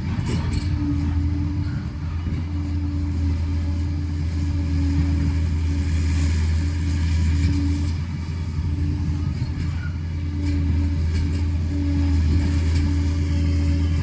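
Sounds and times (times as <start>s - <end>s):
bulldozer diesel engine drone: 0.0s - 14.0s.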